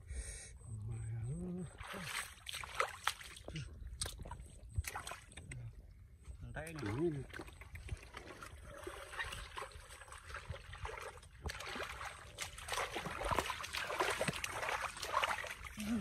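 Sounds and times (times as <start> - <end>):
hands squelching in wet mud: 1.7 - 5.7, 6.8 - 16.0
wet slaps and sloshes: 1.8 - 5.6, 6.8 - 16.0.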